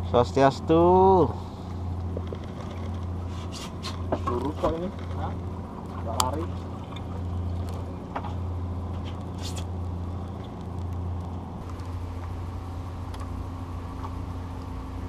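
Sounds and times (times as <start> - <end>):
boat motor droning: 0.0 - 15.0.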